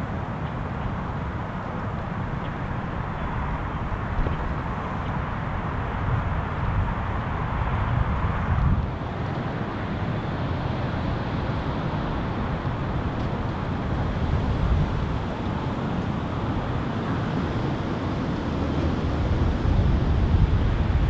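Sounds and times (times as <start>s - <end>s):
wind rumbling on microphone: 0.9s - 21.0s.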